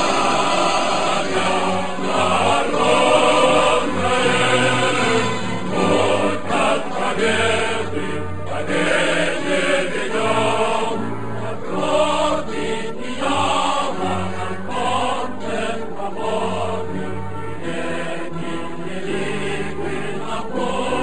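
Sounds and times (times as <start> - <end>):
choir singing chant-like notes: 0.0 - 21.0.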